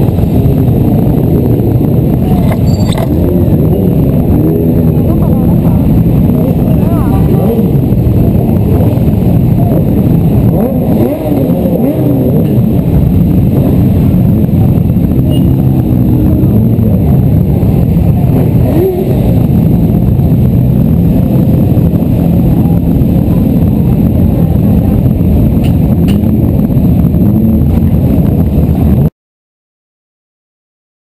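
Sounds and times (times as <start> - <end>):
motorcycle engines revving: 0.0 - 29.1.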